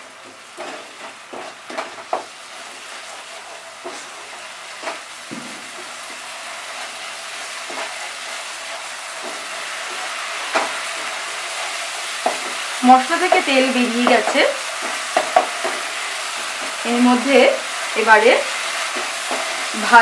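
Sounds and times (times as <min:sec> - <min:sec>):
masala sizzling in oil: 0:00.0 - 0:20.0
spatula scraping and tapping pan: 0:00.2 - 0:16.8, 0:18.8 - 0:19.7.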